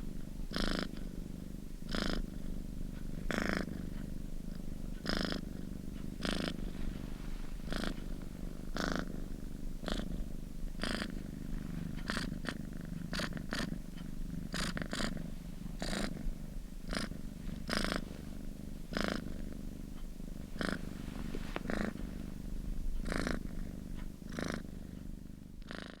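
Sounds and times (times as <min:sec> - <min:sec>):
kitten purring: 0:00.0 - 0:26.0.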